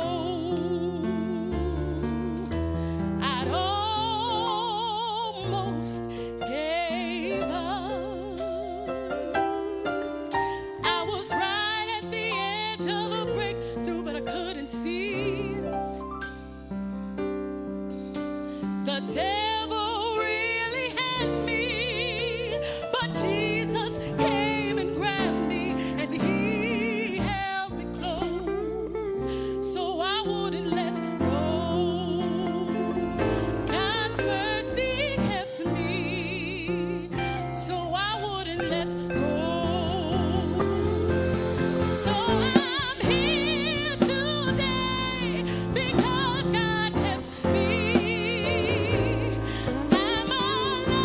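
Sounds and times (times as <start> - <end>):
woman singing: 0.0 - 16.1, 18.8 - 51.0
instrumental accompaniment with bass: 0.0 - 51.0.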